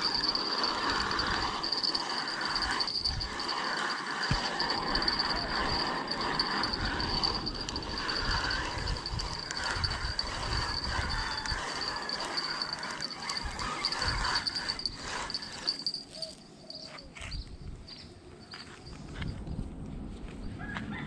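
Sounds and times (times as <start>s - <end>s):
insects droning high: 0.0s - 19.2s.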